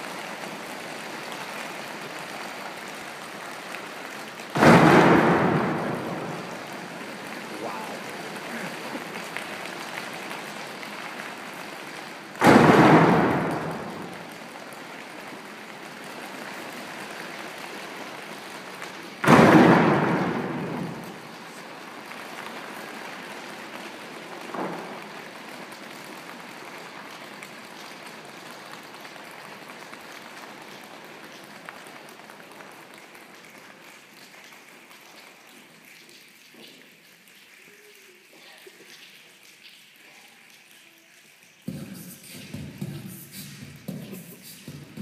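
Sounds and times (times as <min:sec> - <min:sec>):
audience applause: 0:00.0 - 0:45.0.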